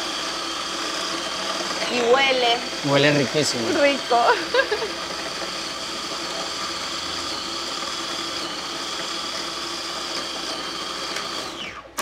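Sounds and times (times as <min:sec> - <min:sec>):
food processor running: 0:00.0 - 0:12.0.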